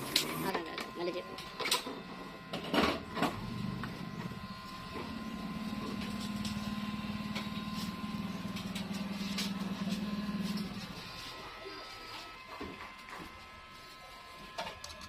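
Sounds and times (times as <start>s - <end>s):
spin-dryer motor humming and rattling: 0.0s - 15.0s.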